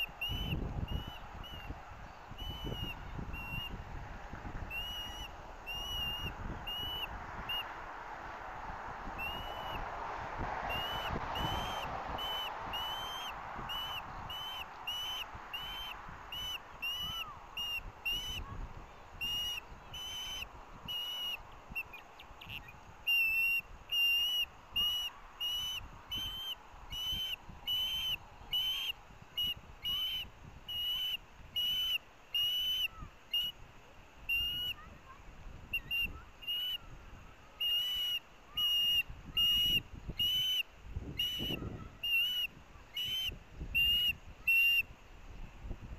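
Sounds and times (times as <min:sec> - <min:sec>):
osprey high whistled chirps: 0:00.0 - 0:03.8, 0:04.6 - 0:07.7, 0:09.1 - 0:09.9, 0:10.7 - 0:33.6, 0:34.3 - 0:34.9, 0:35.6 - 0:36.9, 0:37.5 - 0:44.9.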